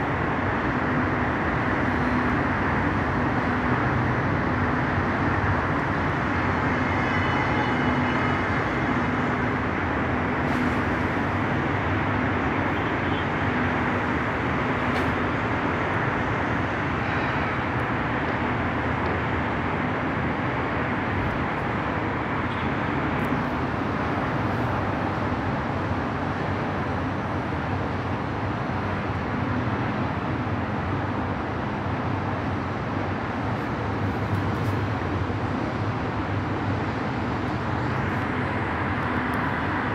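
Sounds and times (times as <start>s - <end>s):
city road traffic hum: 0.0s - 39.9s.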